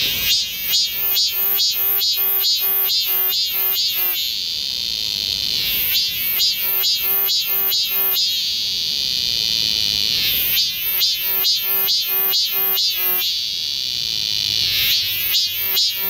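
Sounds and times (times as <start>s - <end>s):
cicada buzzing: 0.0s - 16.0s.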